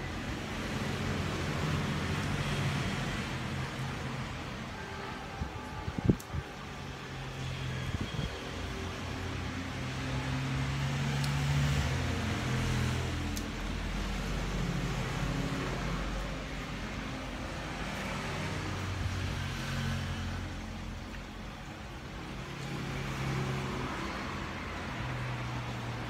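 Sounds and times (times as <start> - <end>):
road traffic rumbling: 0.0 - 26.0
vehicles passing: 0.0 - 26.0.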